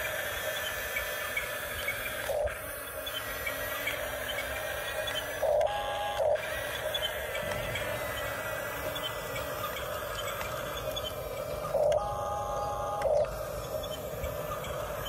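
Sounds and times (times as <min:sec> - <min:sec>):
toy motors and gears whirring: 0:00.0 - 0:15.0.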